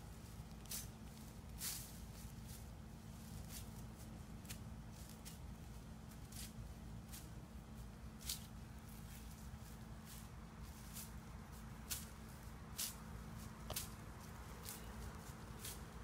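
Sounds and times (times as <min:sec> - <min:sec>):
weed cutter swishing: 0:00.1 - 0:16.0.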